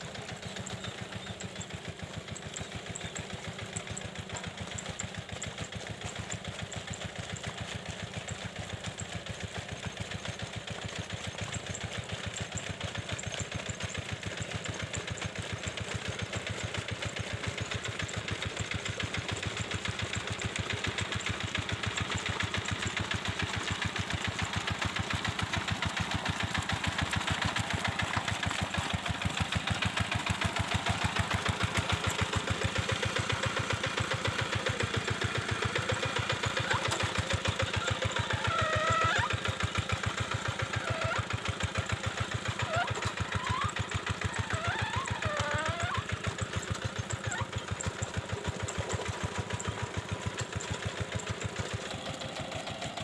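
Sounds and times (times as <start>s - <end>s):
hand tractor engine running: 0.0s - 53.0s.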